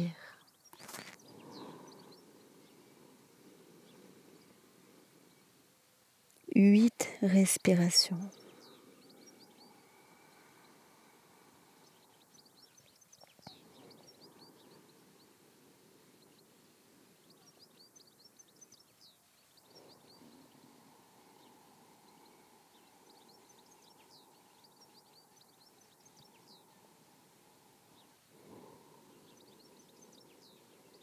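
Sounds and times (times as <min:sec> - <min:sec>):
faint birdsong chirps: 0:00.0 - 0:31.0
soft steady hiss: 0:00.0 - 0:31.0.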